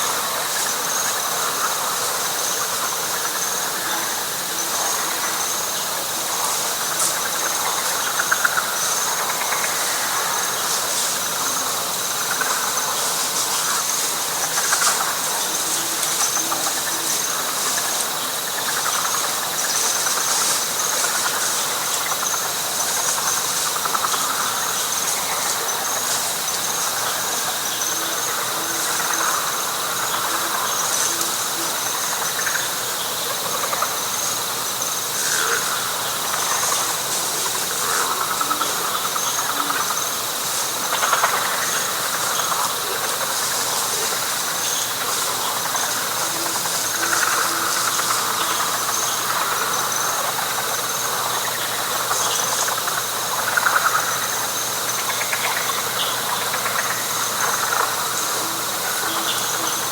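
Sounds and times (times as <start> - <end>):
steady high insect trill: 0.0 - 59.9.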